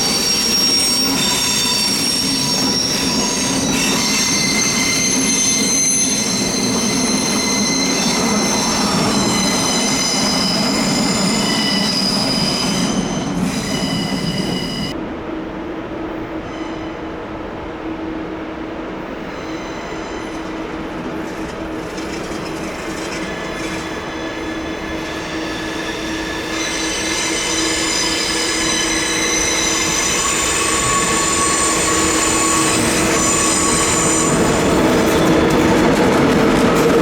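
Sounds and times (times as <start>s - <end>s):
train wheels squealing on rails: 0.0s - 15.0s, 16.2s - 18.0s, 18.9s - 37.0s
rolling train: 0.0s - 37.0s.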